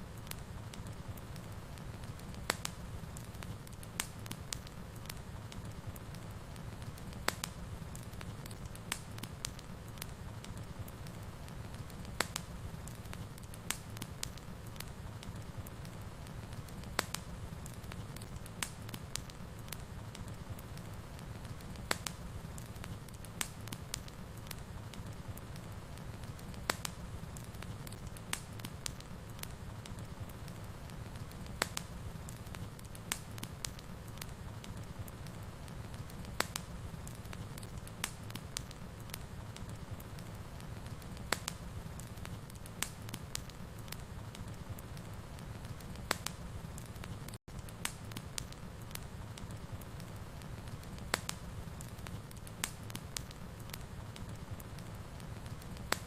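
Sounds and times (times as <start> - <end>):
low rumble of flames: 0.0 - 56.0
sharp fire pops: 0.0 - 56.0
wood fire crackling: 0.0 - 56.0.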